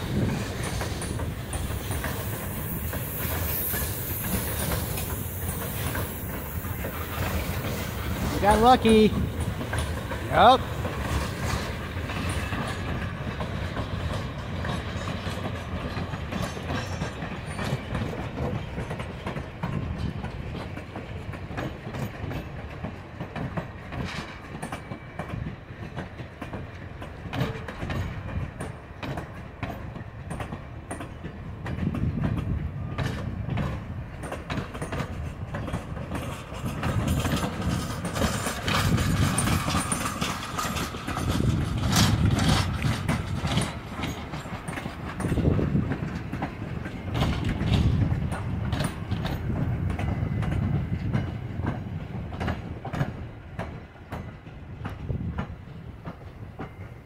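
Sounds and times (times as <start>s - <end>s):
wheels clicking over rail joints: 0.0s - 56.9s
train wheels rumbling on rails: 0.0s - 57.0s.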